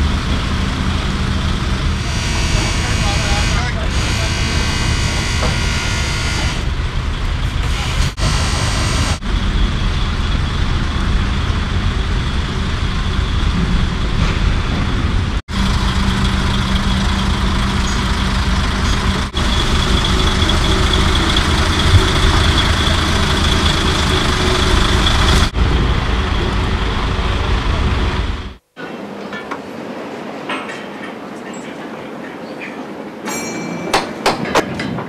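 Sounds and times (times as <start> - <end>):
diesel engine idling: 0.0 - 28.6.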